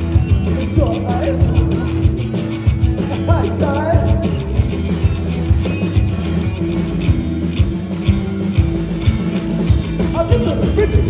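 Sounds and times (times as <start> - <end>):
drum beat: 0.0 - 11.0
rock band playing instrumental: 0.0 - 11.0.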